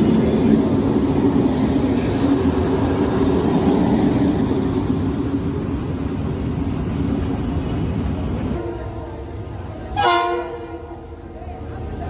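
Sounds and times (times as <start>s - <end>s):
locomotive rumbling: 0.0s - 12.0s.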